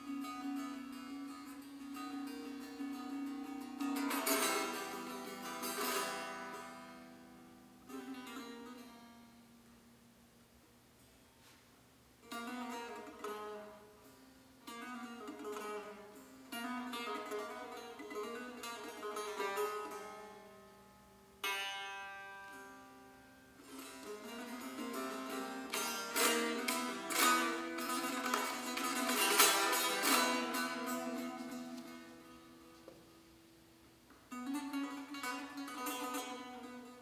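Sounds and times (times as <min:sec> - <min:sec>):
fast loud lute strumming: 0:00.0 - 0:09.2, 0:12.3 - 0:14.0, 0:14.6 - 0:33.2, 0:34.3 - 0:37.0
long-necked lute plucked: 0:00.0 - 0:09.8, 0:12.2 - 0:37.0.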